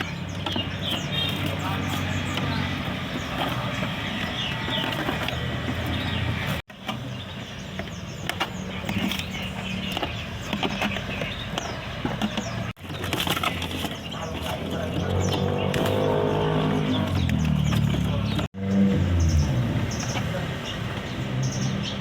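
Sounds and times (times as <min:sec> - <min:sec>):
low hum of traffic: 0:00.0 - 0:22.0
songbirds chirping: 0:00.0 - 0:22.0.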